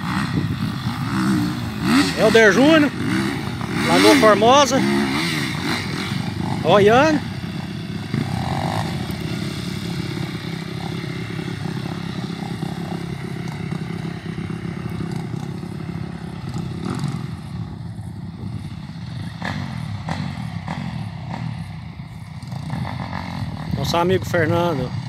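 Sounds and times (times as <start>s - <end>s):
dirt bike engine under load: 0.0s - 25.0s.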